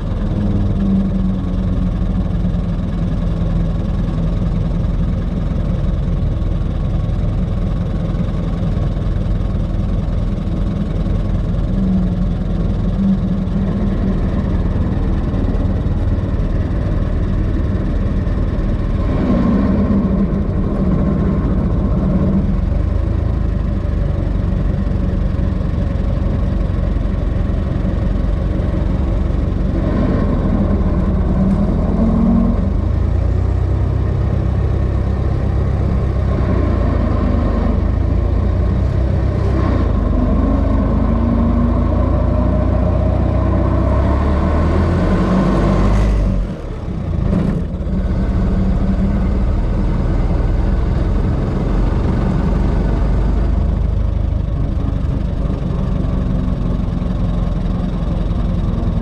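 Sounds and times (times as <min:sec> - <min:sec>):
old car engine running: 0:00.0 - 0:59.0.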